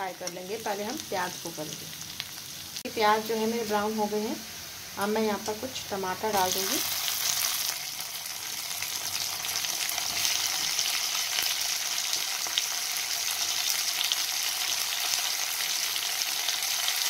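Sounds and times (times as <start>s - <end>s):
onions and tomatoes sizzling in oil: 0.0s - 17.0s.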